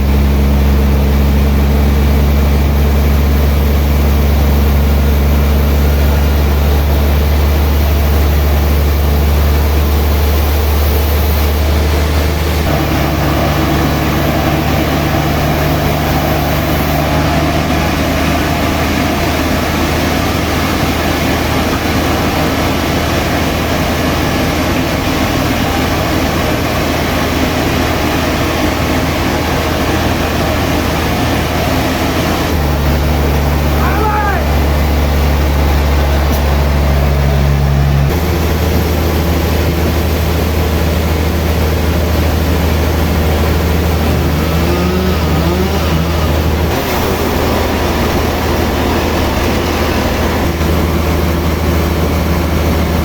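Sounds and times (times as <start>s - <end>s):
higher rough machine sound: 0.0s - 53.0s
sawmill machinery humming: 0.0s - 53.0s.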